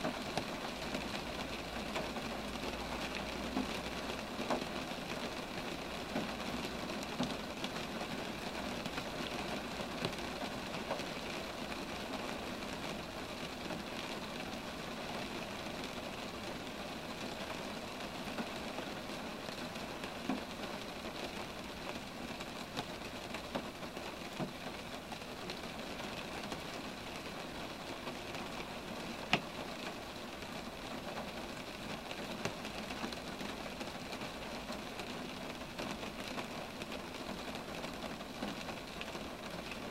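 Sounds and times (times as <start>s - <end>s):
rain falling on trees: 0.0s - 39.9s.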